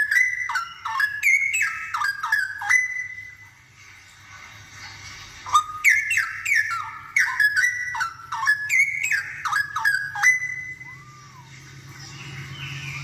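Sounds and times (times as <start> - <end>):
bird singing whistled notes: 0.0 - 3.5, 5.5 - 13.0.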